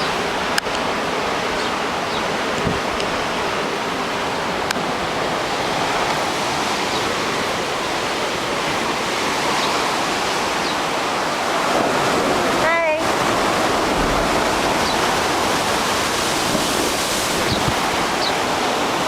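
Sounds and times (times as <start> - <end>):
surf crashing in strong wind: 0.0 - 19.0.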